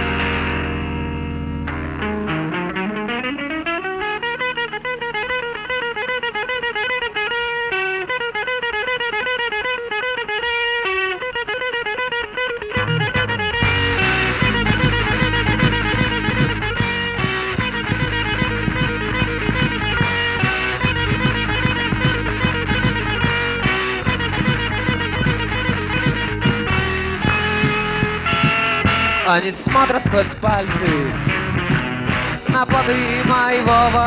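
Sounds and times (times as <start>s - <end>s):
guitar picking a melody: 0.0s - 34.0s
rock band playing: 0.0s - 34.0s.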